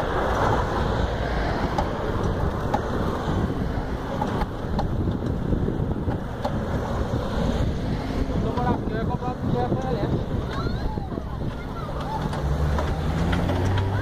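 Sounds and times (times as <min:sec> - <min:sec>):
road traffic passing: 0:00.0 - 0:14.0
wind buffeting microphone: 0:00.0 - 0:14.0.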